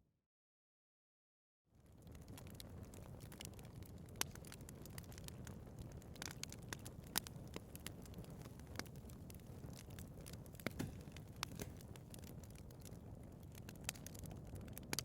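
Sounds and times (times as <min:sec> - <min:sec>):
fire low rumble: 0:01.7 - 0:15.0
wood fire crackling: 0:01.8 - 0:15.0.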